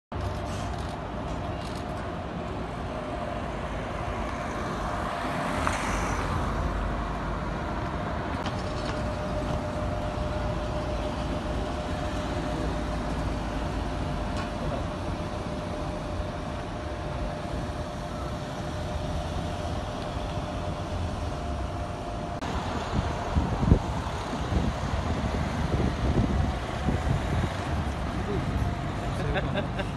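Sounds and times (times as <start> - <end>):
cars driving past: 0.3 - 29.9.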